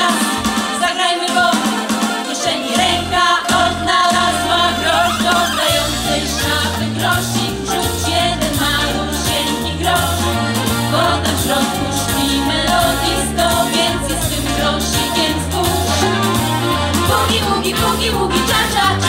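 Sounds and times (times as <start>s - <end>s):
women's vocal group singing: 0.0s - 19.0s.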